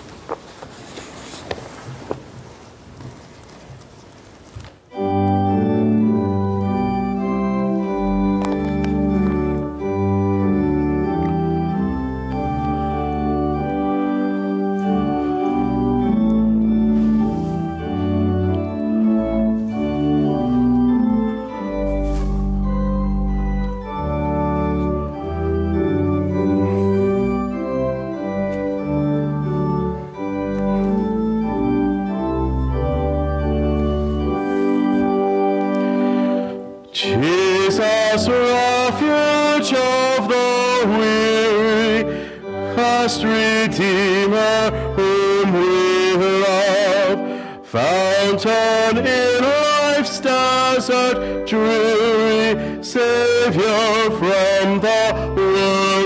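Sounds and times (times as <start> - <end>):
church organ chords: 4.9 - 56.0.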